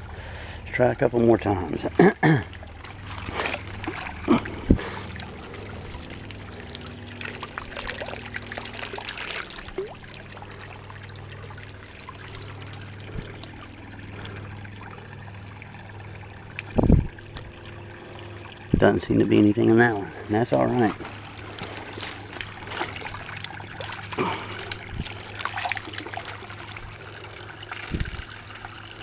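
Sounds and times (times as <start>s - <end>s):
creek water trickling: 0.0s - 29.0s
water splashing and dribbling: 1.3s - 29.0s.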